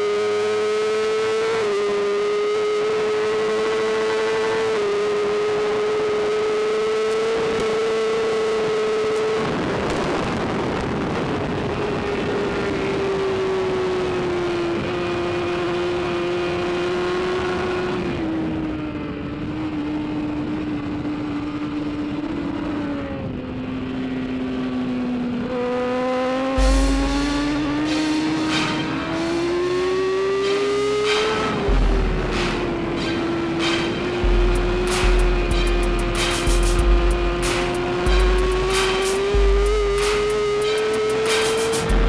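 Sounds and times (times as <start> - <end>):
motorcycle engine at high revs: 0.0 - 42.0.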